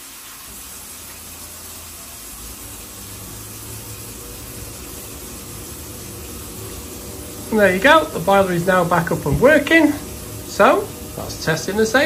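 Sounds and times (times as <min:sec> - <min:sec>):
boiler fan hum: 0:00.0 - 0:12.0
steady gas hiss: 0:00.0 - 0:12.0.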